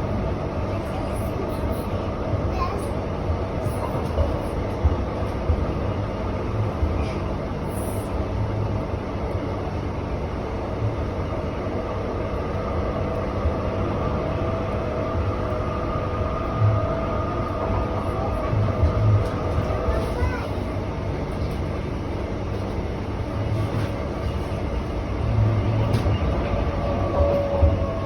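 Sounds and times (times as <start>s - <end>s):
train rumbling and rattling: 0.0s - 28.0s.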